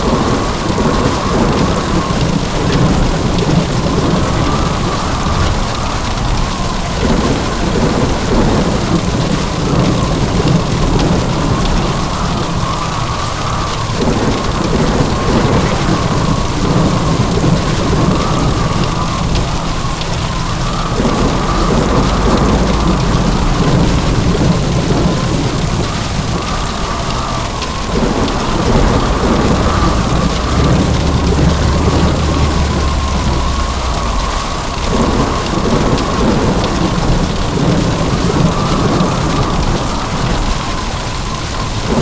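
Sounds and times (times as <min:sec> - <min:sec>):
heavy rain pouring: 0:00.0 - 0:42.0
low thunder rumbling: 0:00.0 - 0:42.0.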